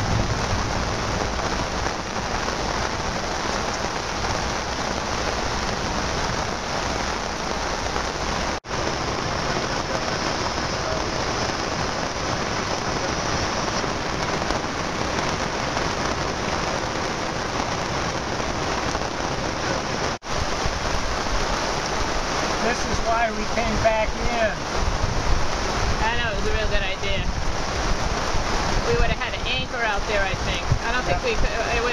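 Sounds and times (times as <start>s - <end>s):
heavy rain falling: 0.0s - 31.9s.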